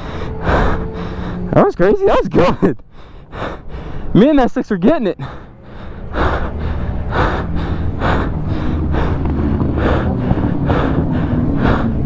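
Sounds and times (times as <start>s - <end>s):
person panting hard: 0.0s - 1.5s, 2.4s - 4.2s, 5.2s - 12.0s.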